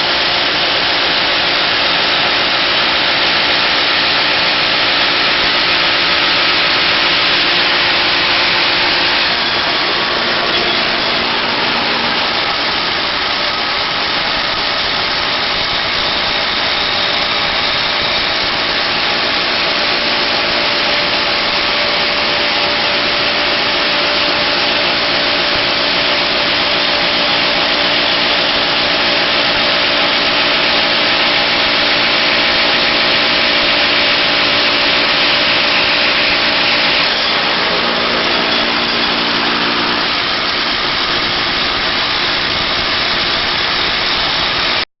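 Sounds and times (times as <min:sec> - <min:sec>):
machine motor running: 0:00.0 - 0:44.8.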